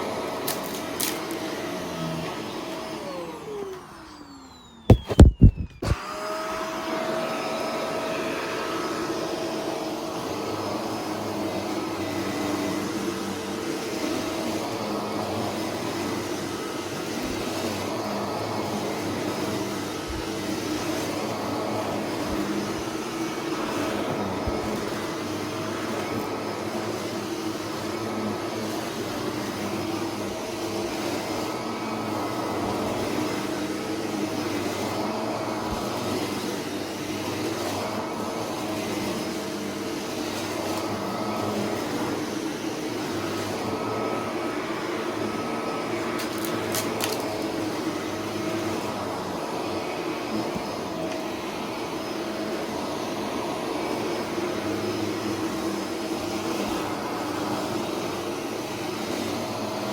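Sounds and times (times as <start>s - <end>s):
vacuum cleaner motor hum: 0.0s - 59.9s.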